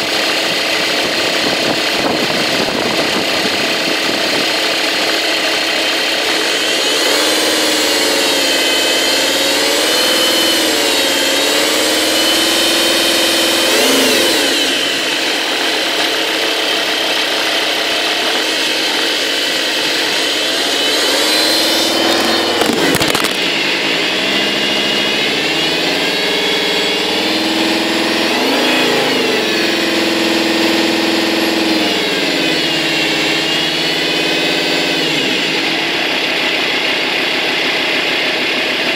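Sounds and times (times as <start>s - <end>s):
diesel engine running: 0.0s - 38.9s
belt whine: 0.4s - 36.2s.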